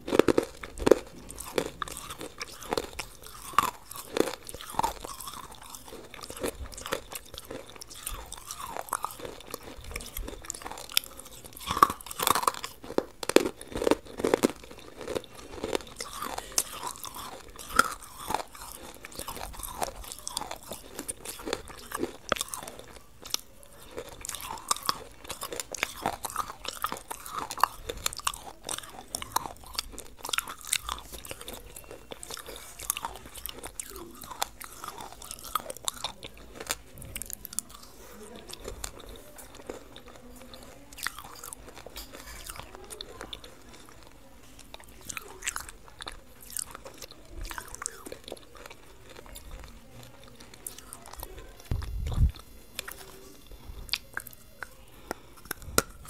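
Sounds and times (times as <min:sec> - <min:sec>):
crunching bites and chewing: 0:00.0 - 0:56.0.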